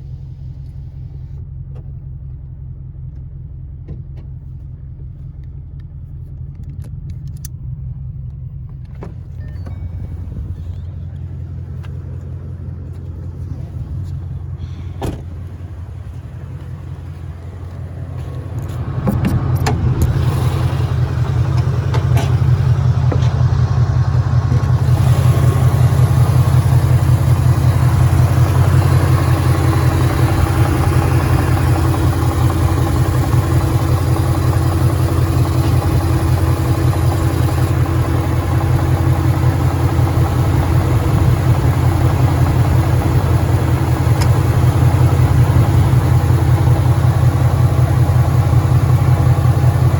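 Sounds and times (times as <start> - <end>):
car engine running: 0.0 - 49.9.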